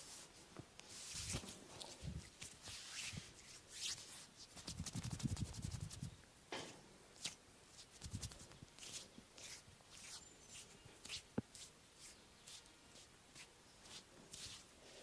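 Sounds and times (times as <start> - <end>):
slaps and strokes on skin: 0.8 - 1.6, 2.2 - 6.1, 7.2 - 14.6.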